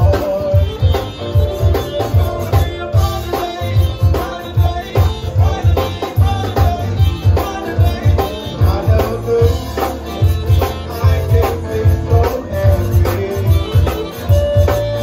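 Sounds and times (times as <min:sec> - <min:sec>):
drum kit beat: 0:00.0 - 0:15.0
electric bass: 0:00.0 - 0:15.0
held melody notes: 0:00.0 - 0:15.0.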